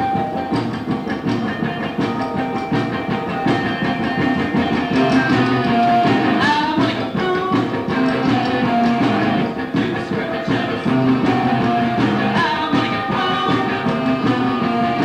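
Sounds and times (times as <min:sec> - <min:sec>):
noisy rock band playing: 0:00.0 - 0:15.0.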